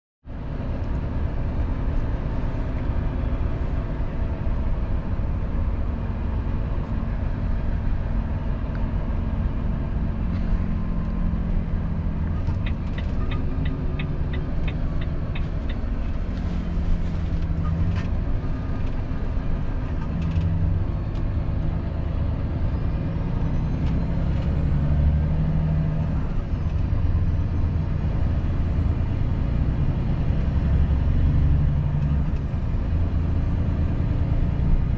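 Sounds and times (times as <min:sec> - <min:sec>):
truck diesel engine running: 0:00.4 - 0:34.9.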